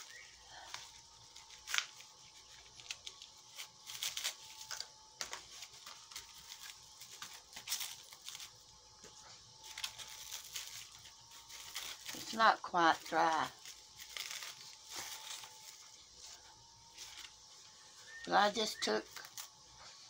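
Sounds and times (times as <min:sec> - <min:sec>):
plastic bag crinkling: 0:00.0 - 0:08.8, 0:09.6 - 0:17.6
paper rustling: 0:00.0 - 0:18.1.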